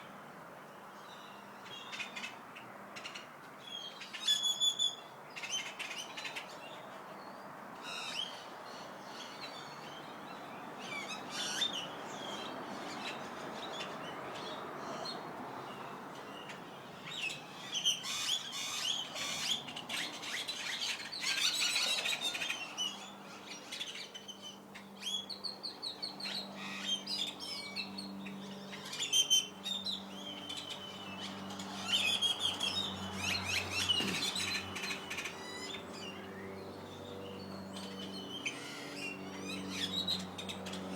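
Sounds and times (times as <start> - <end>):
small birds chirping: 8.0 - 40.9.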